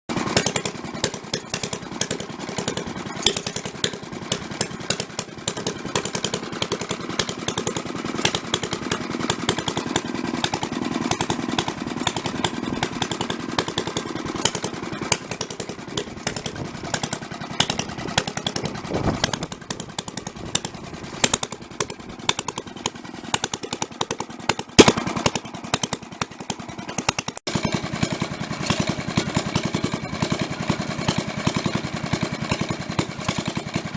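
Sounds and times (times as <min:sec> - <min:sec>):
stationary engine running: 0:00.1 - 0:33.9.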